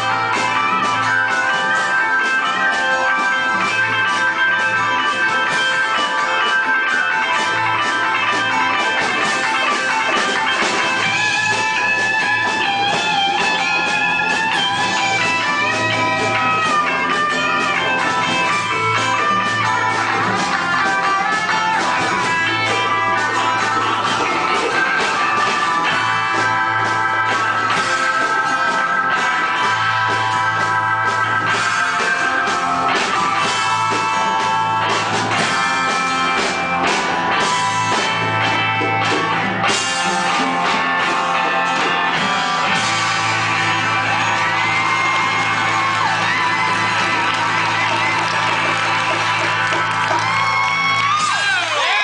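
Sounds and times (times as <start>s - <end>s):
bass guitar: 0.0s - 52.0s
lead guitar sliding: 0.0s - 52.0s
rock band playing: 0.0s - 52.0s.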